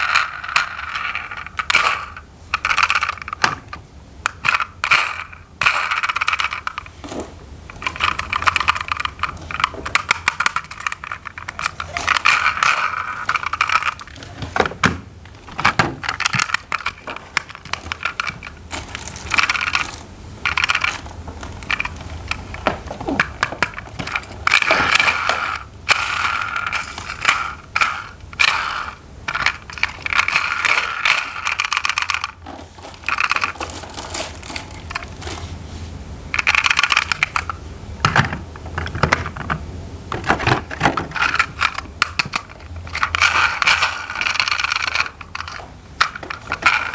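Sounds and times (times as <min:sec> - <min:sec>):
plastic toy parts clicking: 0:00.0 - 0:06.9, 0:07.7 - 0:35.4, 0:36.4 - 0:46.9.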